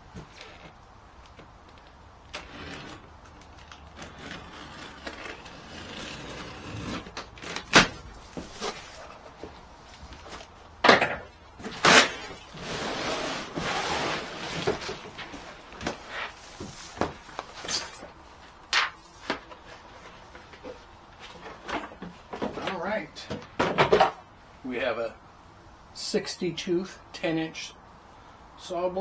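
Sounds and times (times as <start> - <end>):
cardboard rustling and scraping: 0.0 - 24.2.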